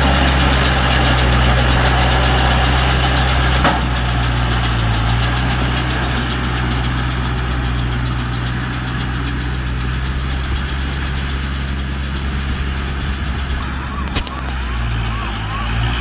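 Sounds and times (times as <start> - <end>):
diesel tractor engine running: 0.0 - 16.0
fast regular machinery ticking: 0.0 - 16.0.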